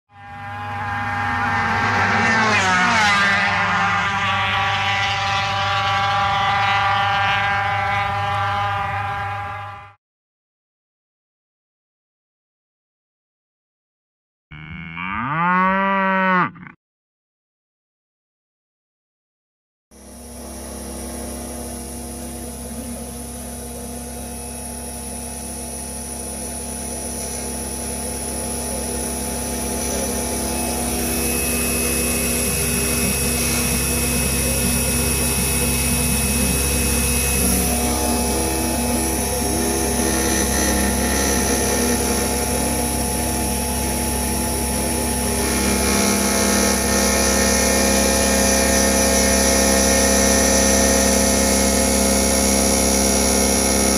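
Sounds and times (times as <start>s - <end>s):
milling machine hum and whine: 0.2s - 9.9s, 20.0s - 53.9s.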